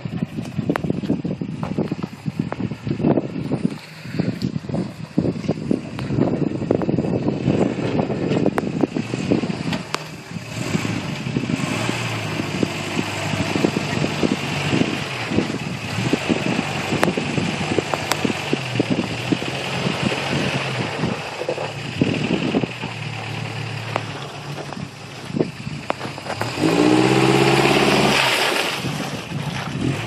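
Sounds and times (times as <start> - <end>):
truck engine at low revs: 0.0 - 30.0.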